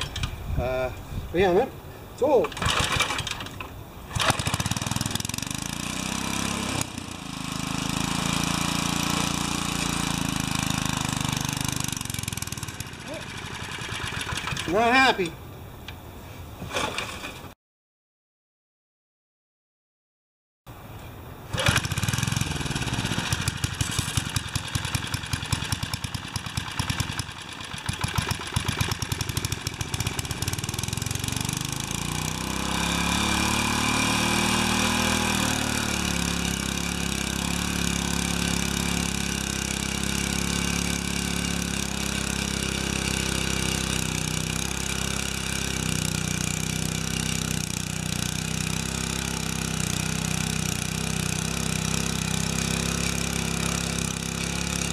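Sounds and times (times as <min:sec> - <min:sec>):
rototiller engine running: 0:02.4 - 0:15.1, 0:21.5 - 0:54.9.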